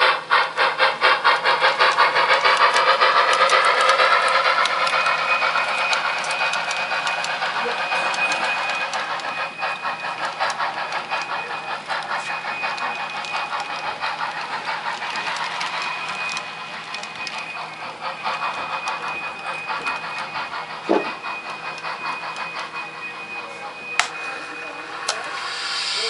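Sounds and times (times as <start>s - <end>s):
model locomotive motor whining: 0.0s - 26.0s.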